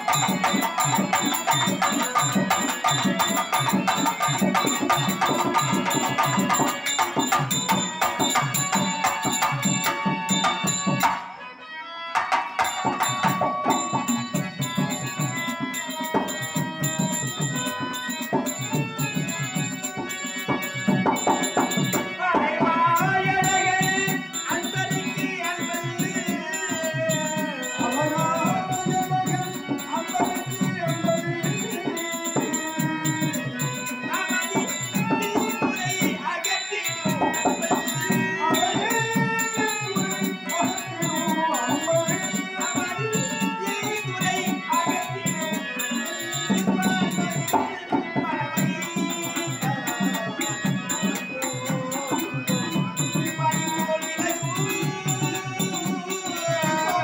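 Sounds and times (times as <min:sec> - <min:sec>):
hand drums fast rhythm: 0:00.0 - 0:11.3, 0:12.2 - 0:57.0
man singing: 0:00.0 - 0:11.3, 0:12.2 - 0:57.0
harmonium: 0:00.0 - 0:57.0.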